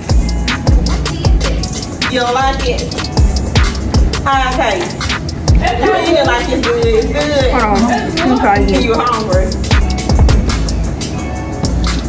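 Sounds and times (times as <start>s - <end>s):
deep bass beat: 0.0s - 12.0s
ticking hi-hats: 0.0s - 12.0s.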